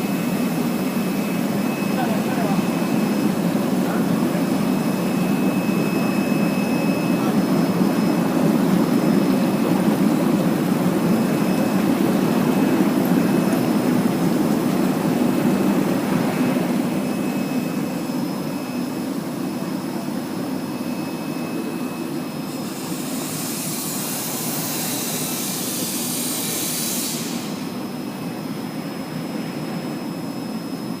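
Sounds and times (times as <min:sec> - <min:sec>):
washing machine running: 0:00.0 - 0:31.0.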